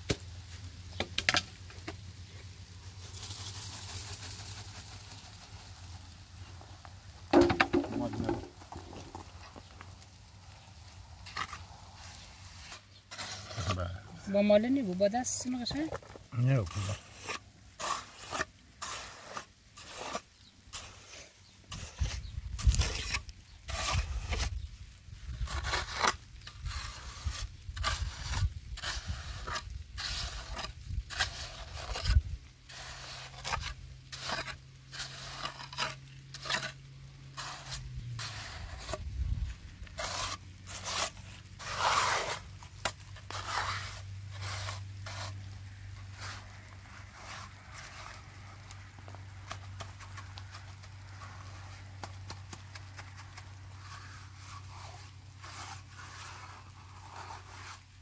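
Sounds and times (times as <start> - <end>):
trowel scraping wet mortar: 7.2 - 10.6, 11.2 - 24.6, 25.3 - 58.0.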